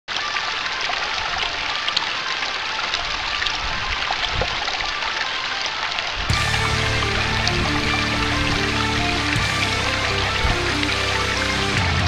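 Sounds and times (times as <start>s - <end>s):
water splashing over rocks: 0.1s - 12.0s.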